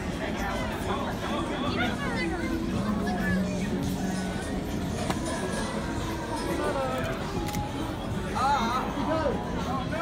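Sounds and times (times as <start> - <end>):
crowd chatter: 0.0 - 10.0
music playing: 0.0 - 10.0.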